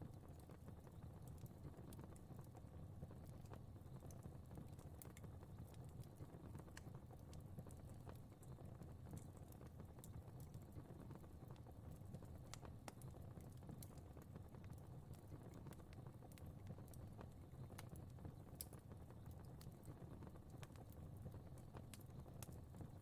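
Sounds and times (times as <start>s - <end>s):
fire crackling pops: 0.1s - 23.0s.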